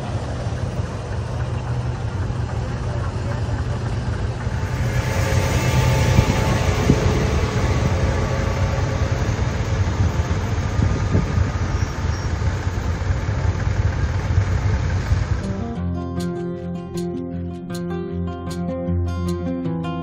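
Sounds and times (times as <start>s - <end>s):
tractor diesel engine rumbling: 0.0s - 17.6s.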